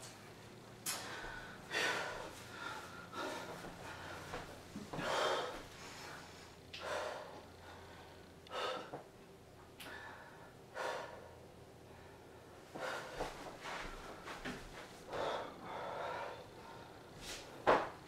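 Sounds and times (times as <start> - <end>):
man breathing hard: 0.9 - 9.1, 9.8 - 17.6.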